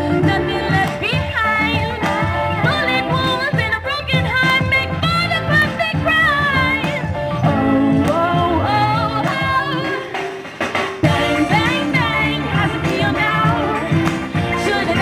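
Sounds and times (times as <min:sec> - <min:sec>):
woman singing into microphone: 0:00.0 - 0:10.2, 0:11.0 - 0:15.0
backing music with a beat: 0:00.0 - 0:15.0.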